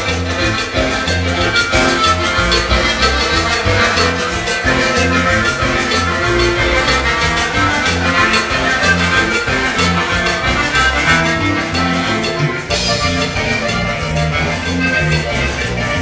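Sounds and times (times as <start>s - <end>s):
live latin dance band music: 0.0s - 16.0s.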